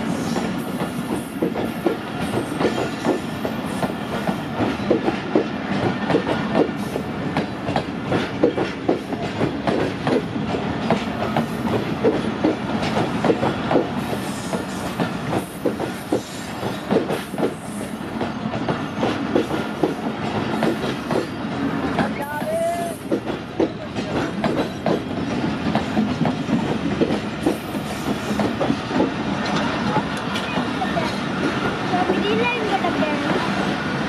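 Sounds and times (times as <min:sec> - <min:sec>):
train wheels clattering over joints: 0:00.2 - 0:33.8.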